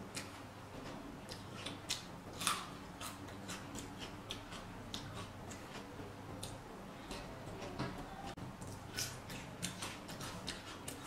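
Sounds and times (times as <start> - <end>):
person chewing crunchy vegetables: 1.2 - 7.7, 8.6 - 11.0.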